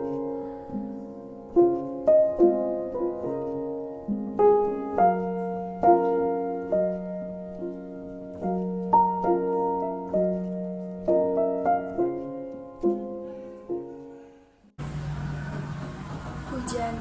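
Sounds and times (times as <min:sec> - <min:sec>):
gentle piano music: 0:00.0 - 0:14.8.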